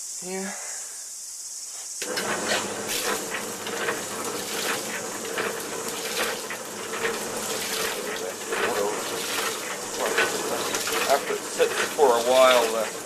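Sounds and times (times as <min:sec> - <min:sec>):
electric pump motor humming: 0:02.0 - 0:13.0
water gushing in spurts: 0:02.0 - 0:13.0.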